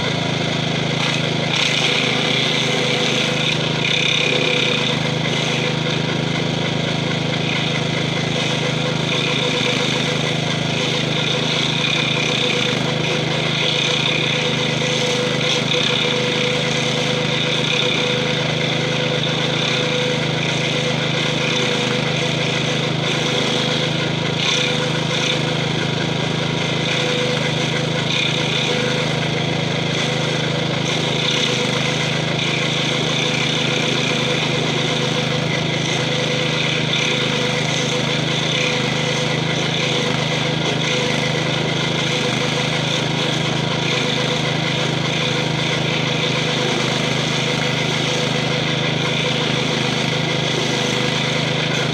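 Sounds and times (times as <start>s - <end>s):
stump grinder cutting stump: 0.0s - 51.9s
tractor engine running under load: 0.0s - 51.9s.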